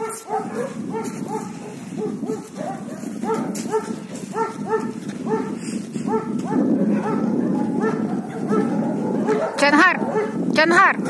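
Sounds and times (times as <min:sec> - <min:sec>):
dog yelping and barking: 0:00.0 - 0:05.5, 0:06.1 - 0:10.4.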